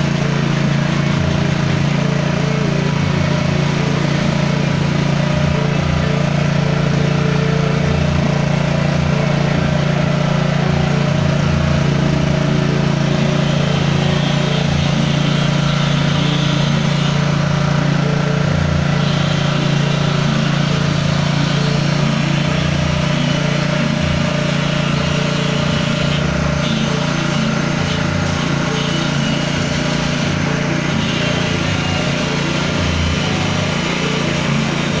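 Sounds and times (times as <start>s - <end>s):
grinding machine humming and whirring: 0.0s - 35.0s.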